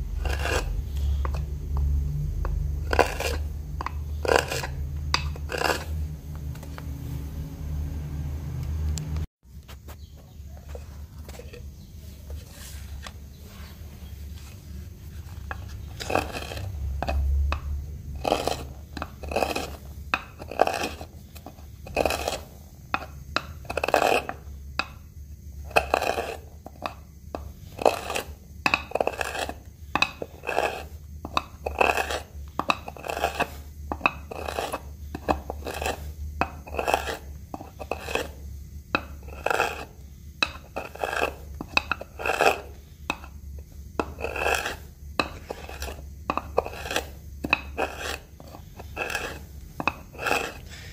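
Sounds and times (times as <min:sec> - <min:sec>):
gouge scraping wood: 0:00.1 - 0:01.9, 0:02.5 - 0:07.0, 0:10.7 - 0:24.9, 0:25.6 - 0:38.4, 0:39.0 - 0:50.9.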